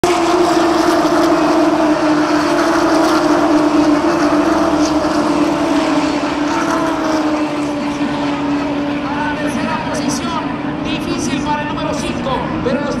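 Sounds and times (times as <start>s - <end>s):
race cars at full throttle: 0.0s - 13.0s.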